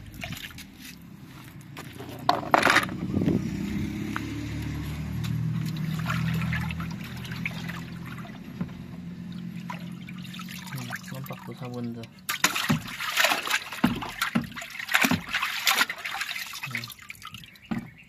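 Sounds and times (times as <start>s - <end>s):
water splashing in a plastic tub: 0.0s - 18.0s.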